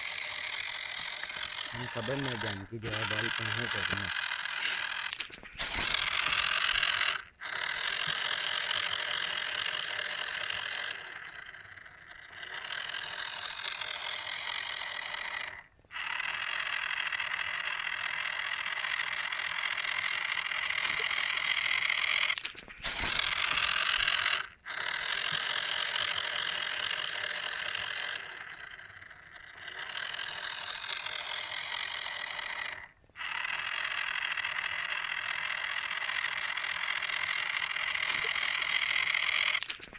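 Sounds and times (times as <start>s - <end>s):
small electric motor whirring: 0.0s - 39.9s.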